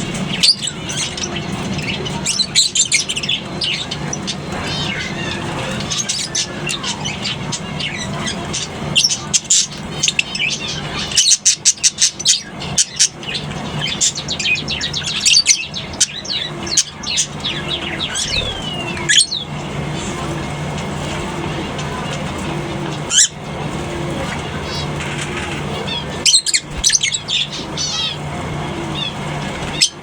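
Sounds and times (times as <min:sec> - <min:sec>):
lovebirds chattering: 0:00.0 - 0:30.0.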